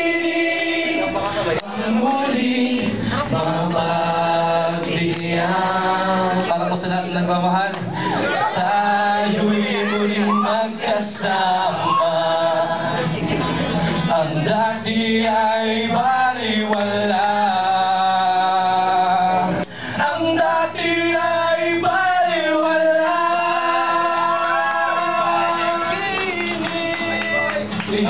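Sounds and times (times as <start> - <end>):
backing music: 0.0 - 28.0
man singing into a microphone: 0.0 - 28.0.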